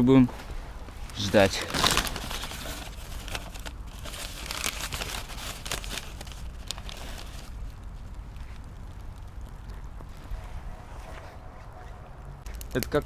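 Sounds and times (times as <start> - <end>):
fire crackling and popping: 0.4 - 13.0.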